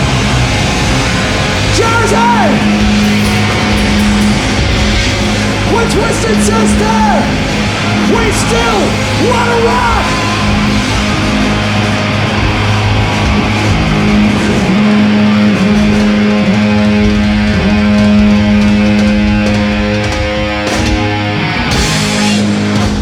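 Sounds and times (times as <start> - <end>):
cymbals washing: 0.0 - 23.0
distorted electric guitar and bass chords: 0.0 - 23.0
drum hits: 0.0 - 23.0.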